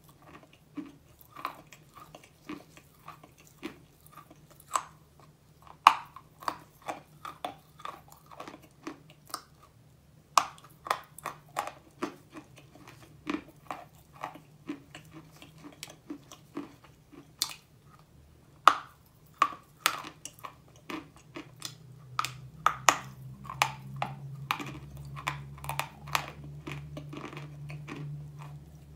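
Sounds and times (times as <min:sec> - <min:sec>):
chalk crunching when chewed: 0:00.0 - 0:09.7, 0:10.4 - 0:18.1, 0:18.7 - 0:28.9.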